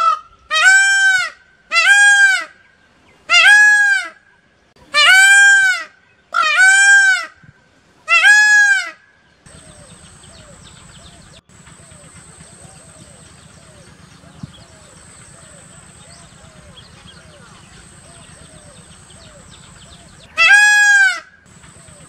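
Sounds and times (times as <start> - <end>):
peacock calling: 0.0 - 22.0.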